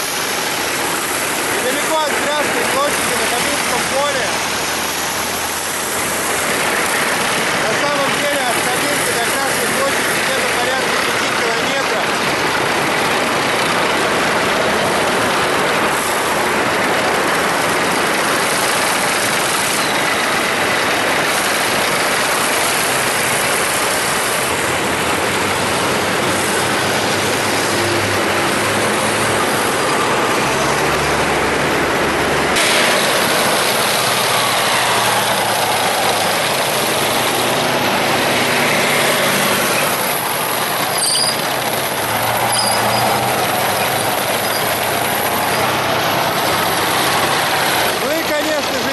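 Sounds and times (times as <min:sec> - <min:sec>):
heavy vehicles driving past: 0:00.0 - 0:48.9.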